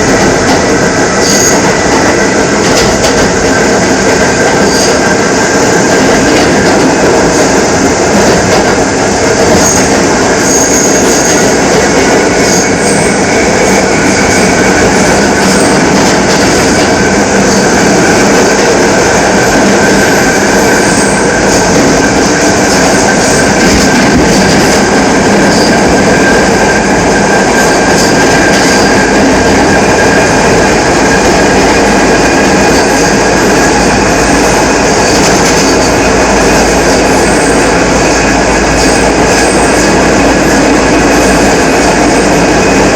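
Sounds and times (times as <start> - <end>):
subway wheels rumbling on rail: 0.0 - 42.9.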